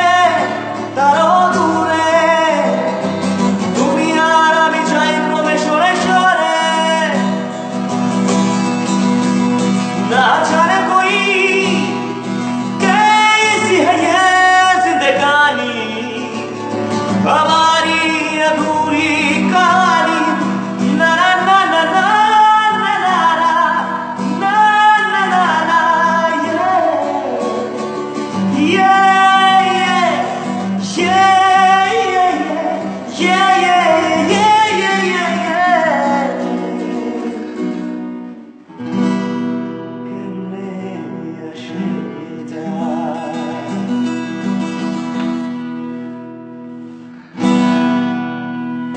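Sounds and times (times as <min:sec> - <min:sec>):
person singing: 0:00.0 - 0:07.6, 0:09.8 - 0:38.6, 0:39.9 - 0:45.0
strummed guitar: 0:00.0 - 0:48.9.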